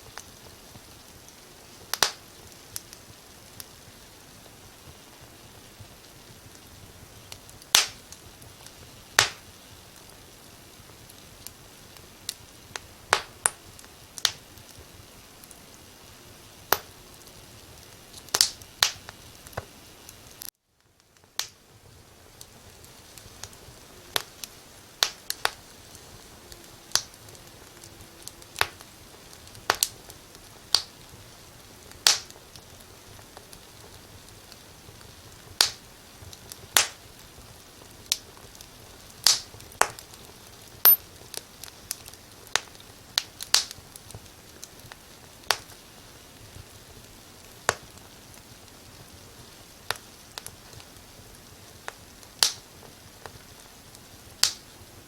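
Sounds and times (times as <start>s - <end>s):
soft fire hiss: 0.0s - 55.0s
wood fire crackling: 0.0s - 55.0s.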